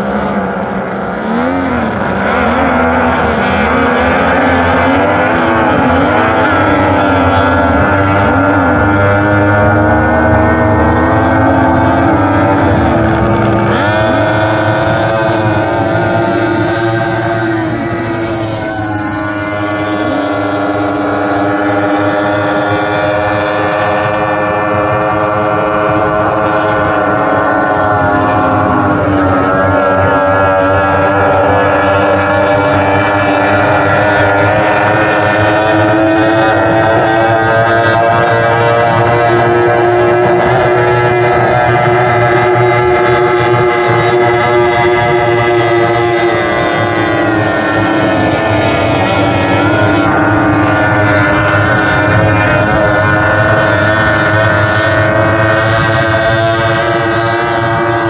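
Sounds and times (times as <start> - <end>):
racing boat outboard engines: 0.0 - 58.0.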